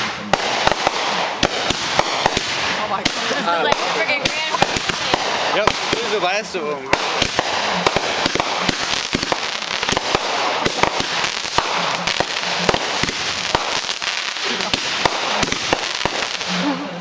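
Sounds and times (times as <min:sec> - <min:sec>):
continuous hiss: 0:00.0 - 0:17.0
fireworks bangs: 0:00.0 - 0:17.0.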